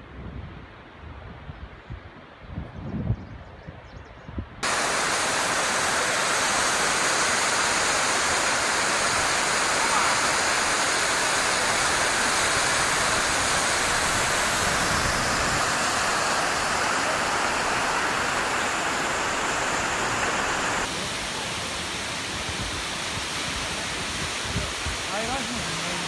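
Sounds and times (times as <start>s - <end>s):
waterfall rushing: 4.6s - 26.0s.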